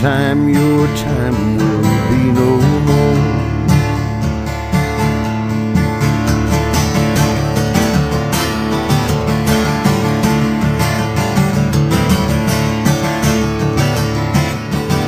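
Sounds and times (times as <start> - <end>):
instrumental country music: 0.0 - 15.0
strummed guitar: 0.0 - 15.0.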